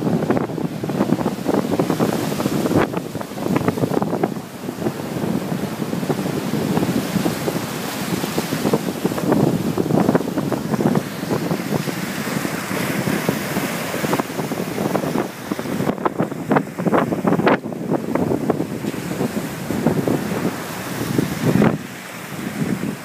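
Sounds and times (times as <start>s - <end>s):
small waves breaking on shore: 0.0s - 23.0s
wind buffeting microphone: 0.0s - 23.0s.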